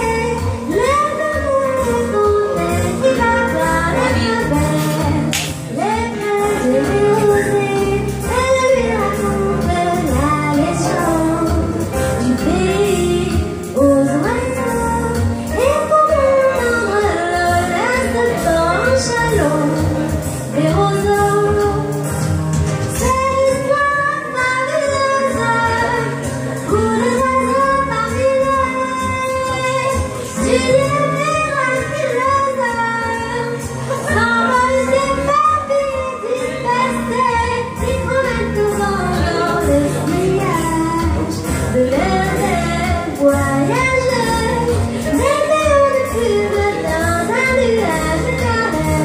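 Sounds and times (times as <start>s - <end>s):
instrumental accompaniment: 0.0s - 49.0s
woman singing: 0.0s - 49.0s.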